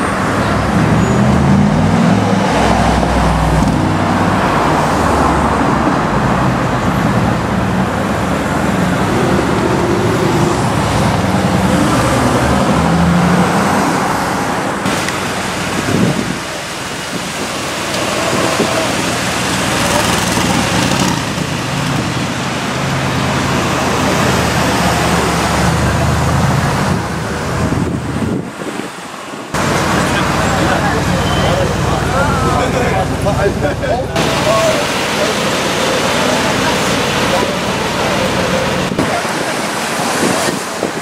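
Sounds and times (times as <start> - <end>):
road and traffic noise: 0.0 - 41.0.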